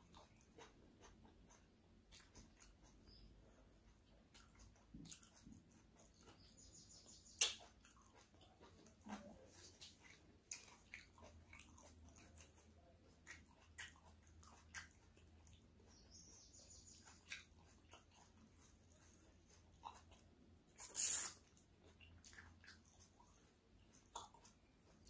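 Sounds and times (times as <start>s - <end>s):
wet eating sounds by hand: 0.0s - 25.0s.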